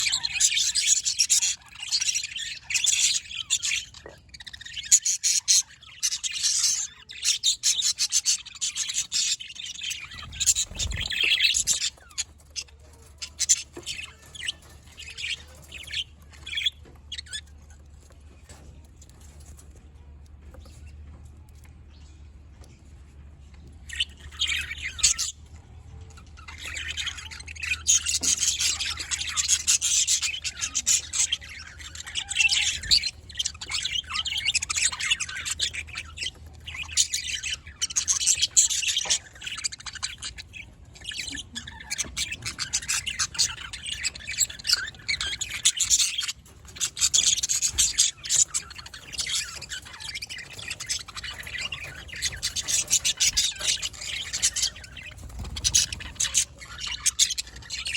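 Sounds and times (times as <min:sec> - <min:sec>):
budgerigar chicks squawking: 0:00.0 - 0:22.0, 0:23.3 - 0:57.9.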